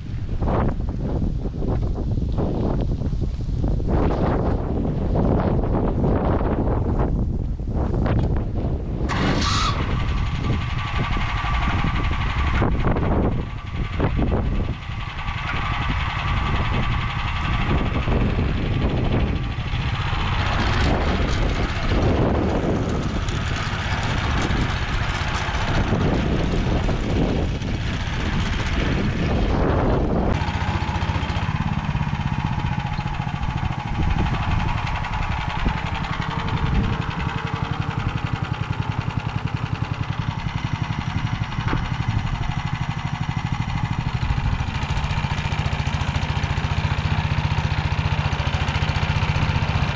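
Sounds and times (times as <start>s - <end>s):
tractor engine running under load: 0.0s - 49.9s
rotary tiller churning soil: 9.0s - 49.9s.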